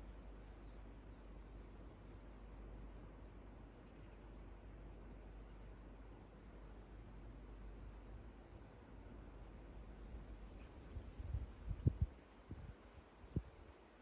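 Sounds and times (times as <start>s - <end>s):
crickets chirring: 0.0s - 14.0s
low background hiss: 0.0s - 14.0s.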